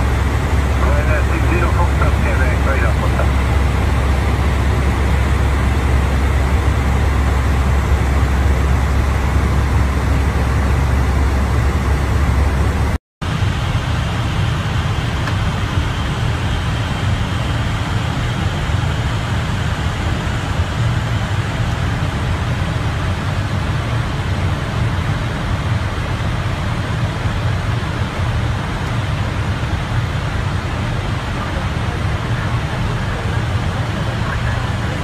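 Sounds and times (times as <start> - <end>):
low rumble of airflow: 0.0 - 35.0.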